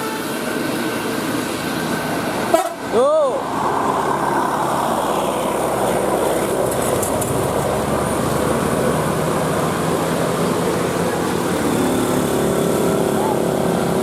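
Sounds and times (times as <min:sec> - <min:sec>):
bus engine and tyres rumbling: 0:00.0 - 0:14.0
traffic noise: 0:00.0 - 0:14.0.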